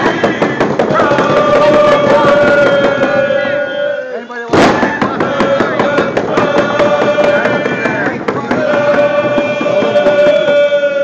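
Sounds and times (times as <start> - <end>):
group singing: 0.0 - 11.0
steady drumbeat: 0.0 - 11.0.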